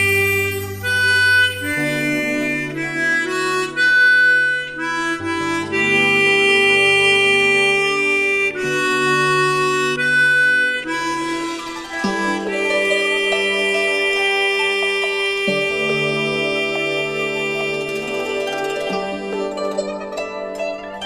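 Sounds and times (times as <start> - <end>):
harmonica slow melody: 0.0 - 21.0.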